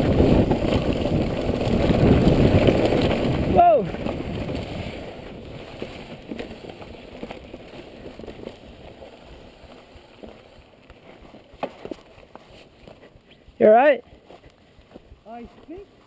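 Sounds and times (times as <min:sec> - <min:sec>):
bike tyres crunching on gravel: 0:00.0 - 0:16.0.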